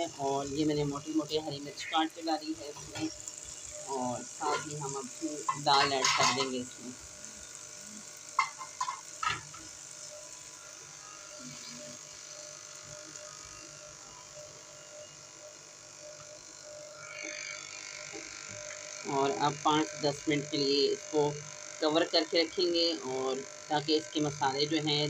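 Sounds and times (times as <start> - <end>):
food sizzling in pan: 0.0 - 21.8
steady electric buzz: 0.0 - 25.0.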